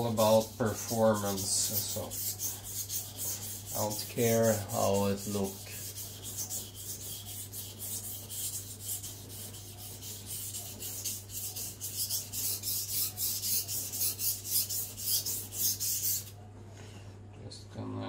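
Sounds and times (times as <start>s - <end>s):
knife scraping on a whetstone: 0.0s - 16.3s.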